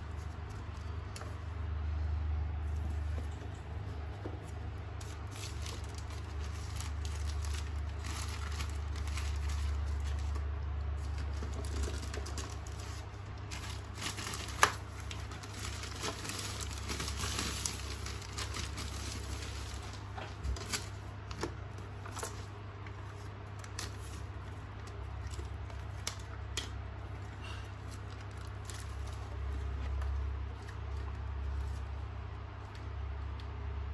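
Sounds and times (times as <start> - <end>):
steady low hum: 0.0 - 33.9
plastic wrap crinkling: 2.6 - 32.9.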